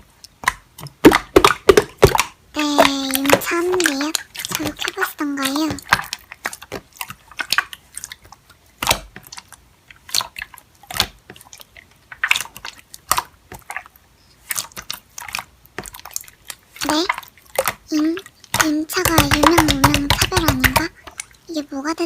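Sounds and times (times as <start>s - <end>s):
slime being squished: 0.0s - 22.0s.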